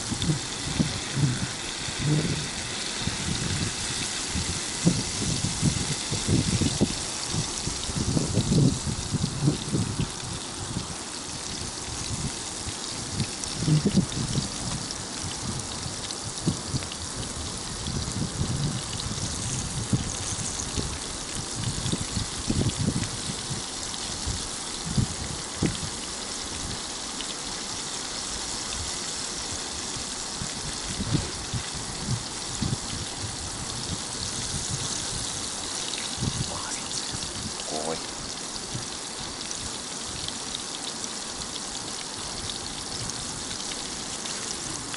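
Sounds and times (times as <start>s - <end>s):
fish sizzling in hot oil: 0.0s - 44.9s.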